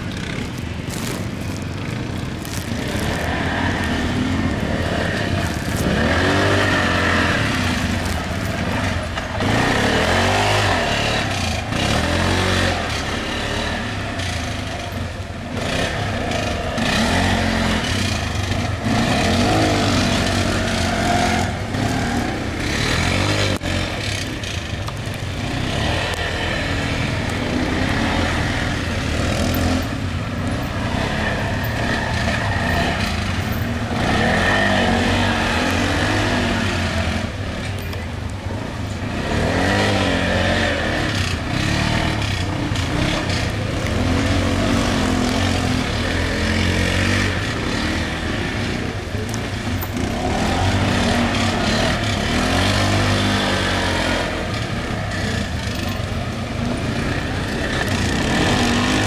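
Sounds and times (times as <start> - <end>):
quad bike engine revving: 0.0 - 59.0.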